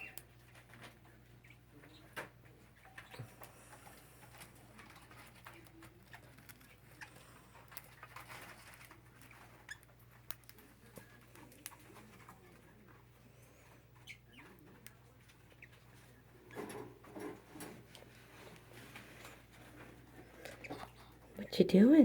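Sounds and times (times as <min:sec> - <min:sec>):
parakeets scratching and tapping: 0:00.0 - 0:21.4.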